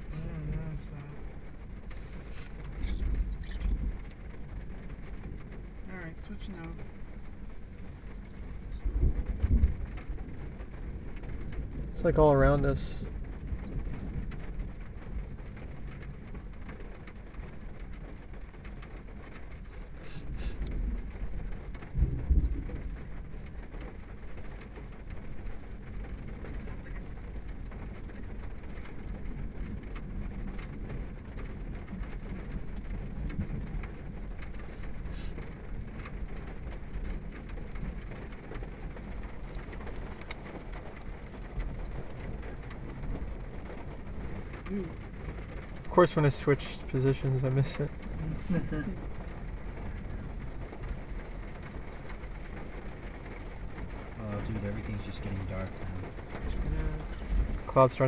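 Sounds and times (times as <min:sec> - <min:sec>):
rain falling on a car: 0:00.0 - 0:58.0
thunder rumble: 0:00.0 - 0:58.0.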